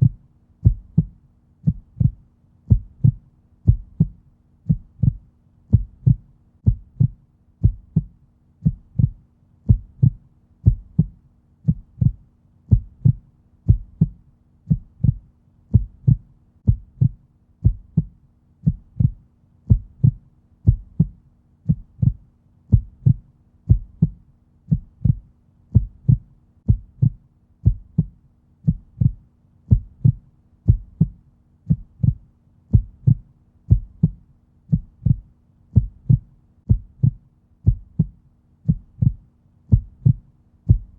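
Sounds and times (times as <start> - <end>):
faint steady hum: 0.0 - 40.9
heartbeat: 0.0 - 40.9.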